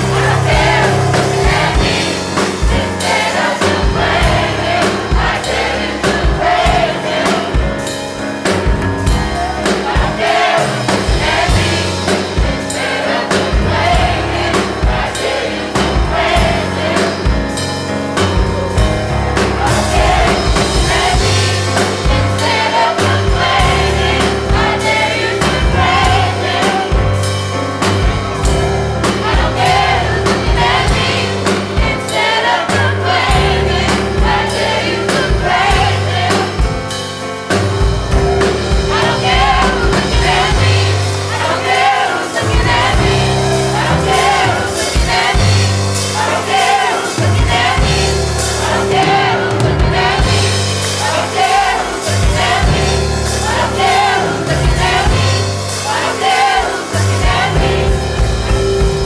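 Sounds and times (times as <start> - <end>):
bass guitar: 0.0 - 56.0, 56.9 - 59.0
drums: 0.0 - 59.0
gospel choir singing: 0.0 - 59.0.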